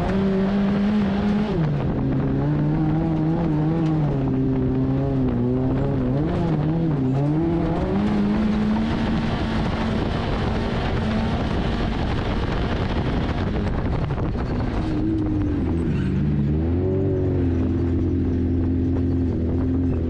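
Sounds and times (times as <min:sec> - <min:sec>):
car engine at high revs: 0:00.0 - 0:20.0
car rushing on dirt: 0:00.0 - 0:20.0.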